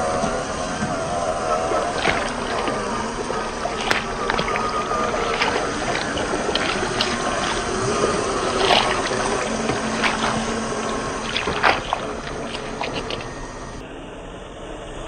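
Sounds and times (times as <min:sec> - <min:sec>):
muddy water splashing: 0:00.0 - 0:13.8.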